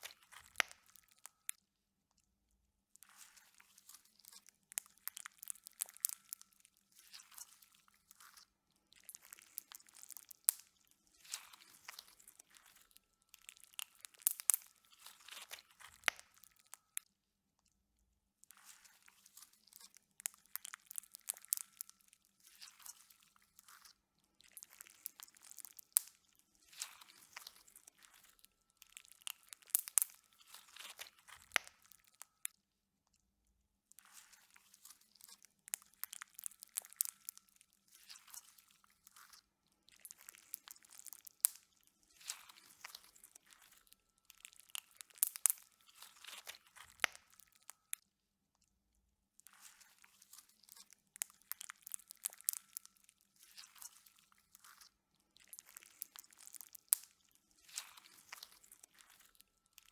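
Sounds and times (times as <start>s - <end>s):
slime squeezed wet crackling: 0.0s - 1.5s, 3.0s - 17.0s, 18.6s - 32.5s, 34.1s - 47.8s, 49.6s - 59.9s.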